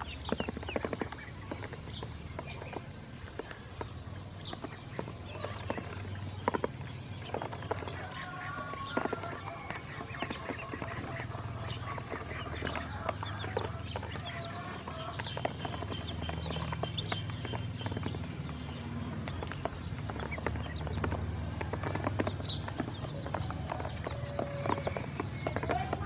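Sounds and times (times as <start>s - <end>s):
bills pecking on plastic: 0.0s - 26.0s
ducklings and chicks peeping: 0.0s - 26.0s.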